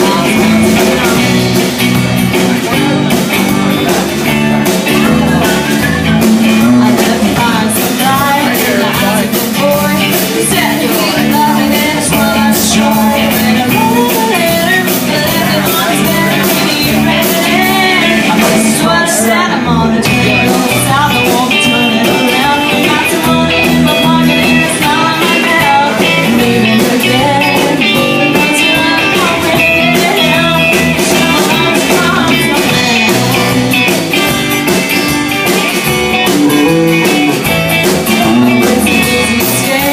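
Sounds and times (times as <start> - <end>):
woman singing: 0.0 - 1.5, 4.8 - 34.5, 37.8 - 39.9
band playing blues rock: 0.0 - 39.9.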